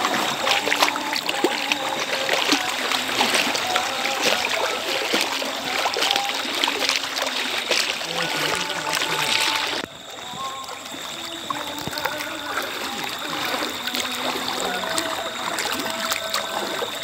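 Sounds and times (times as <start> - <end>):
people wading through floodwater: 0.0 - 17.0.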